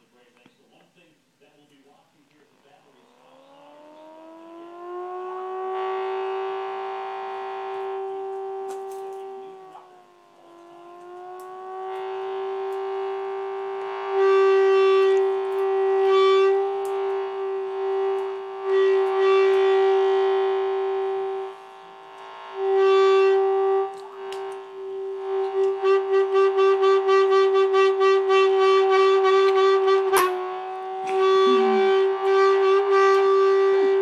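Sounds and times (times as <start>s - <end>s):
sustained pitched tone: 2.8s - 34.0s.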